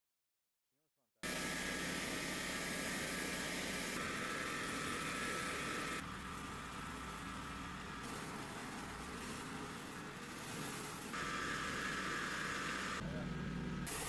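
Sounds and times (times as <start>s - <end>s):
pressure washer motor: 1.2s - 13.0s
pressure washer water hissing: 1.2s - 13.0s.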